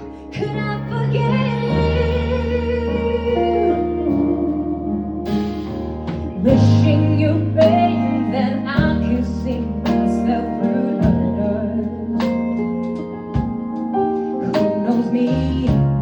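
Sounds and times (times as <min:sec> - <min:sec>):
jazz-pop band playing a ballad: 0:00.0 - 0:16.0.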